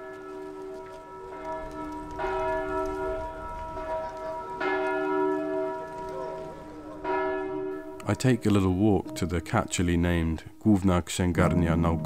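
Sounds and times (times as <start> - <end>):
church bell tolling: 0.0 - 10.7, 11.5 - 12.0.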